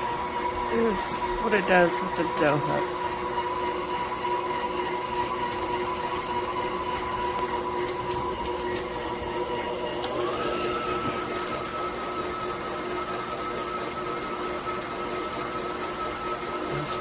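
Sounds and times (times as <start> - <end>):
stand mixer motor whining: 0.0 - 17.0.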